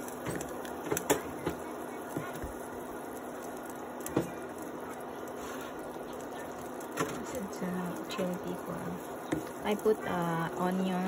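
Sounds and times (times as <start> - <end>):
induction cooktop hum: 0.0 - 11.0.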